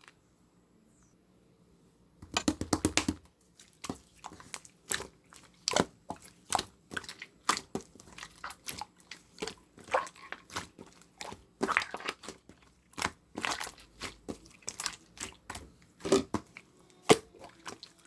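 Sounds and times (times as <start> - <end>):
slime squeezed making sticky pops: 2.2 - 18.0.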